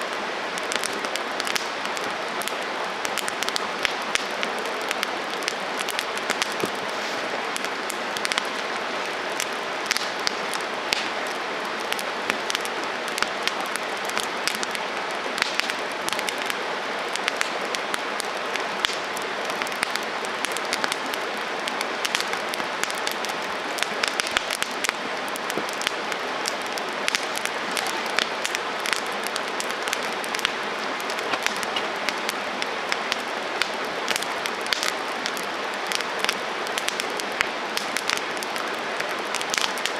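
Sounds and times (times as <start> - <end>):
campfire flames rushing: 0.0 - 39.9
fire crackling and popping: 0.0 - 39.9.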